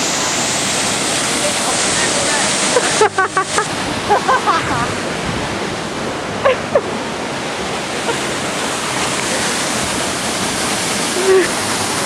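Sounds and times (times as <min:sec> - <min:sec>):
rushing water roar: 0:00.0 - 0:12.0.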